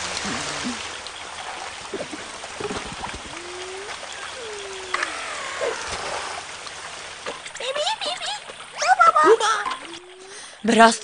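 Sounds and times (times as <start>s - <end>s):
running river water: 0.0s - 11.0s
steady rain: 0.0s - 11.0s.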